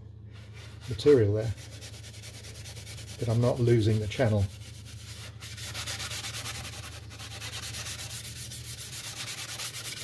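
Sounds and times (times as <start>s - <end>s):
steel wool rubbing painted surface: 0.3s - 10.0s.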